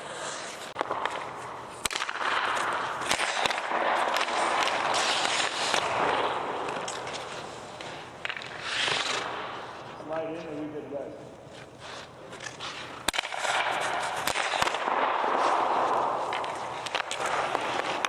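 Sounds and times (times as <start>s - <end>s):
sticks striking pucks: 0.0s - 10.4s, 11.6s - 18.0s
skates scraping on ice: 0.0s - 10.5s, 11.4s - 18.0s.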